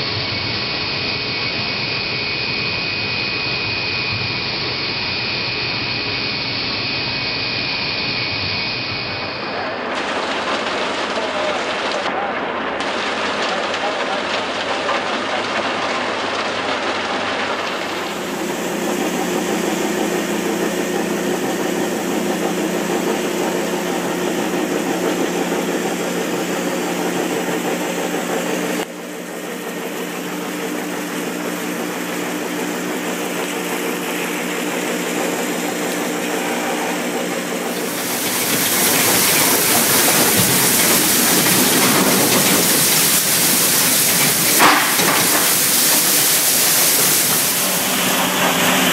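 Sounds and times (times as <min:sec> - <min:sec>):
conveyor rushing hiss: 0:00.0 - 0:48.9
machinery hum and rattle: 0:00.0 - 0:48.9.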